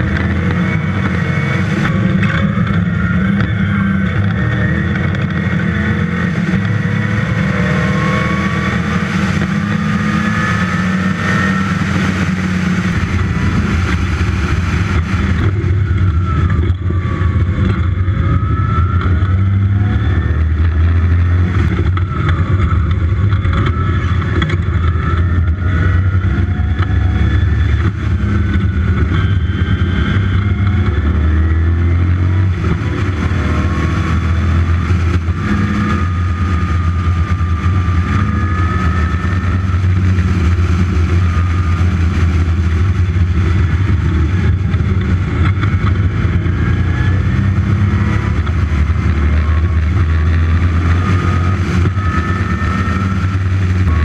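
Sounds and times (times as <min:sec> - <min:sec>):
car engine revving through gear changes: 0:00.0 - 0:54.0.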